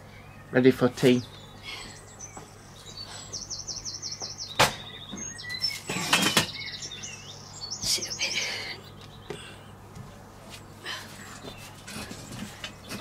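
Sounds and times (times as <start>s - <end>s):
songbirds singing and twittering: 0.0s - 13.0s.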